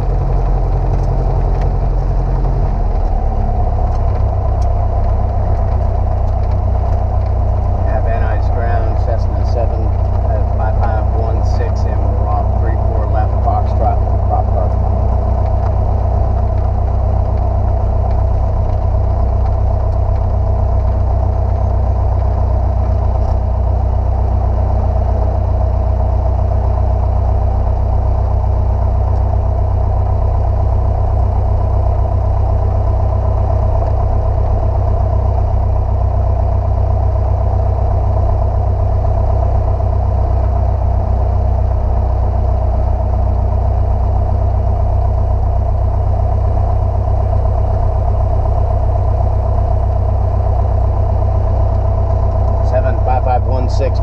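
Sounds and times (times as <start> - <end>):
light airplane engine droning: 0.0 - 54.0.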